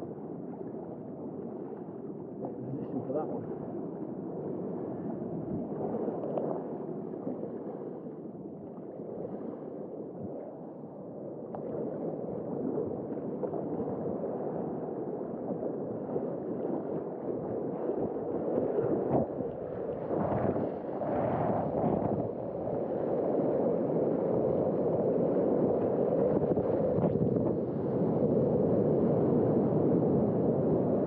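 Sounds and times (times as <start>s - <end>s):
sea water rushing and sloshing: 0.1s - 31.0s.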